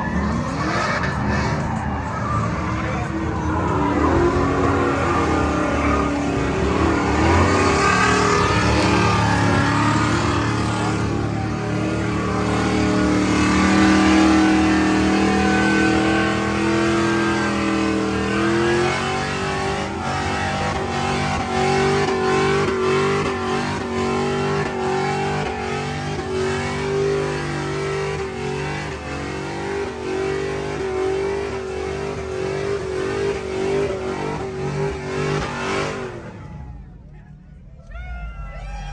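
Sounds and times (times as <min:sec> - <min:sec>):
truck engine revving: 0:00.0 - 0:37.7.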